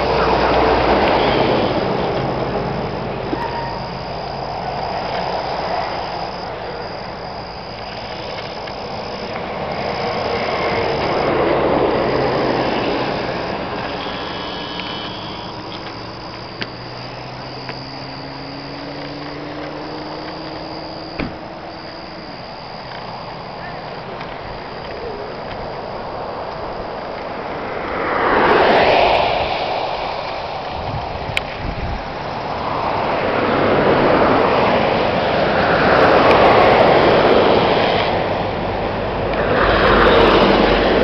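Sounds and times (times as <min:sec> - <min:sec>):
high insect chorus: 0:00.0 - 0:41.0
highway traffic passing: 0:00.0 - 0:41.0.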